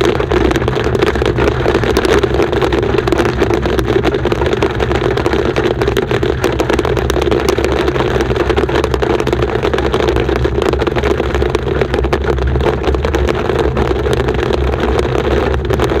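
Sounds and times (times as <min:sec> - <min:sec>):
hail ticking on windshield: 0:00.0 - 0:16.0
road and engine noise in car: 0:00.0 - 0:16.0.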